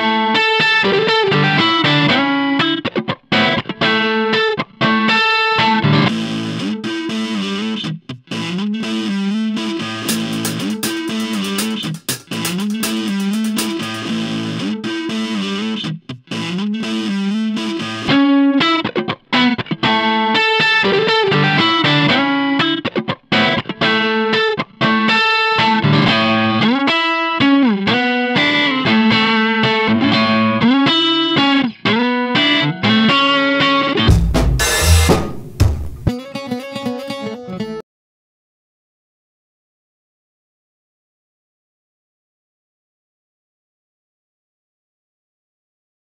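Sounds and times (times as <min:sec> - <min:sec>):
rock music with electric guitar: 0:00.0 - 0:37.8.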